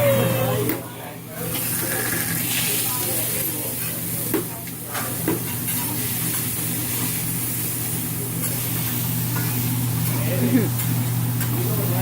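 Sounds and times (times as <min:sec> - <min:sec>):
food sizzling on a griddle: 0:01.4 - 0:12.0.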